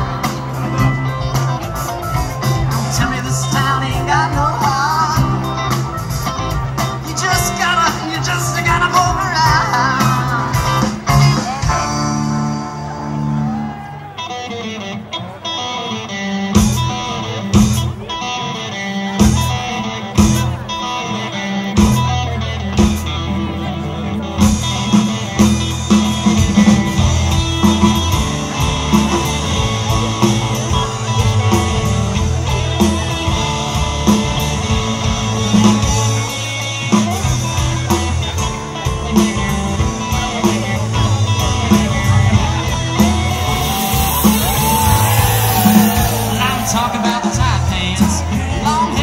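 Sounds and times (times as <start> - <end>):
drum kit: 0.0 - 13.9, 16.4 - 18.5, 19.1 - 49.0
bass guitar: 0.0 - 49.0
electric guitar: 0.0 - 49.0
keyboards: 0.0 - 49.0.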